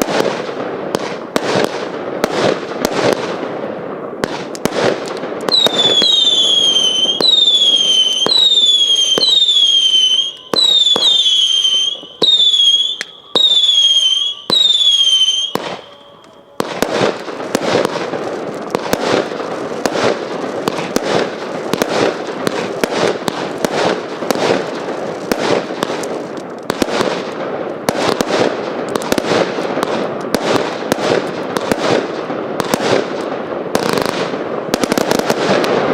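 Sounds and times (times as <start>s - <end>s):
dense firework crackle: 0.0s - 35.9s
firework bangs: 0.0s - 35.9s
whistling firework shots: 0.0s - 35.9s.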